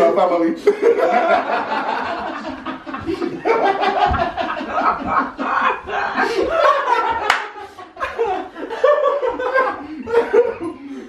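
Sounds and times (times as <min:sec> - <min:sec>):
men laughing: 0:00.6 - 0:11.0.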